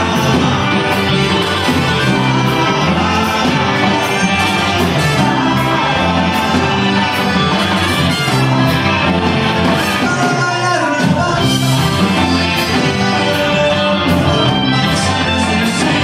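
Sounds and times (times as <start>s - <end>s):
accordion: 0.0s - 16.0s
live rock band playing: 0.0s - 16.0s
steady drum beat: 0.0s - 16.0s.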